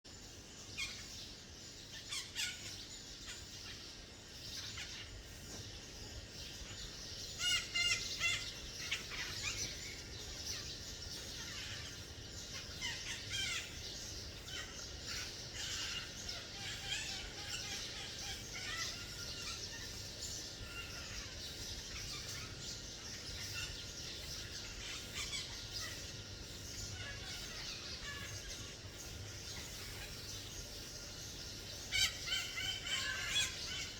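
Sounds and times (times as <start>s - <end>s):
parakeets calling: 0.2s - 33.9s.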